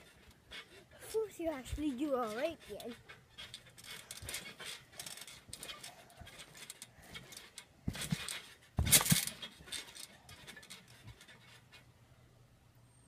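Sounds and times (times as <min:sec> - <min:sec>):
trampoline clicks and rattles: 0:00.0 - 0:12.1.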